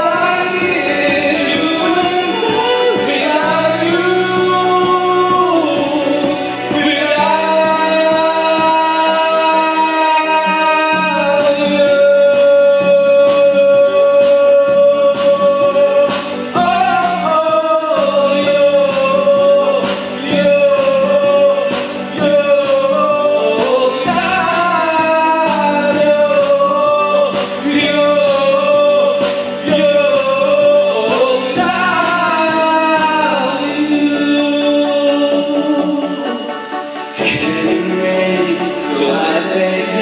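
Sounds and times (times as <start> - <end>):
karaoke backing track: 0.0 - 40.0
man singing into microphone: 0.0 - 40.0.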